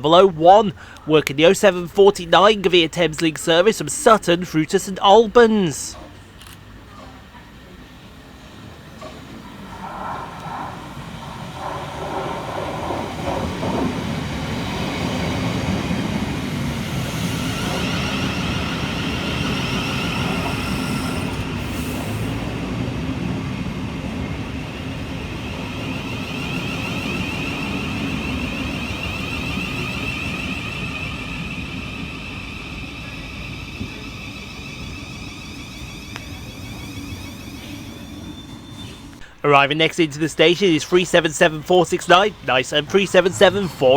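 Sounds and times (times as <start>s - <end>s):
train wheels rumbling on rails: 0.0s - 43.8s
electric train high whine: 0.0s - 43.9s.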